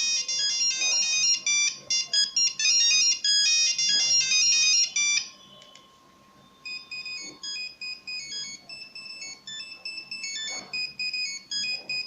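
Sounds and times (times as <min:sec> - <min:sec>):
monophonic phone ringtone: 0:00.0 - 0:12.0.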